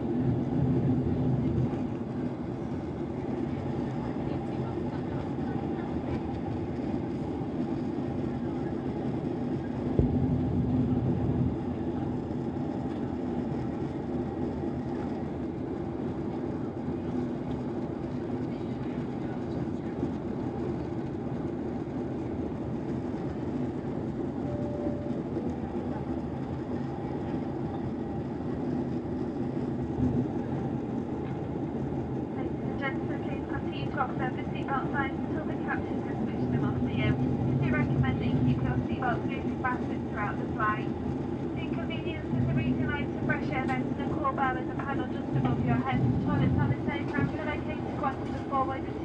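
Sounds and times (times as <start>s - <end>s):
airplane engines droning: 0.0s - 49.0s.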